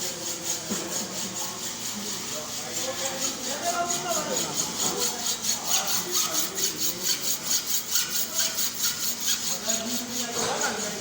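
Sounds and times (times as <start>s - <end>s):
hacksaw cutting metal: 0.0s - 11.0s.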